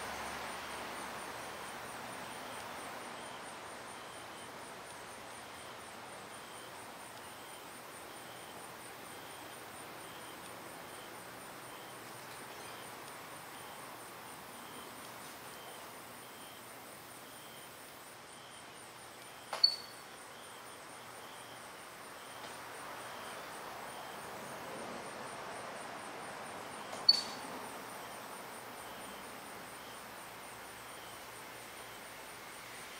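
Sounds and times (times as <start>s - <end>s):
faint steady hiss: 0.0s - 32.9s
insect chirps: 0.0s - 32.9s
insects high pulsing trill: 0.0s - 32.9s.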